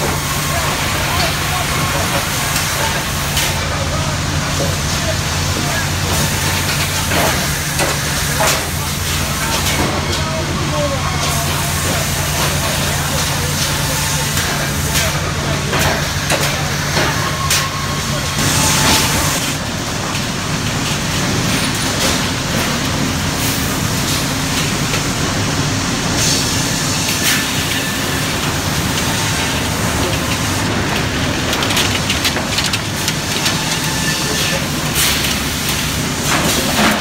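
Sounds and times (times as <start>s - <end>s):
conveyor chains and rollers clattering: 0.0s - 37.0s.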